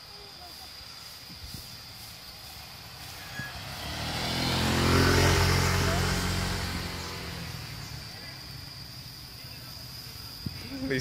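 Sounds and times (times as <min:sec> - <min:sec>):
motor scooter passing: 0:00.8 - 0:11.0.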